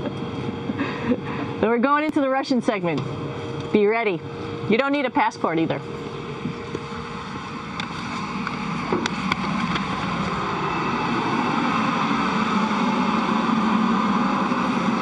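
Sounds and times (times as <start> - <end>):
ventilation fans whirring: 0.0 - 15.0.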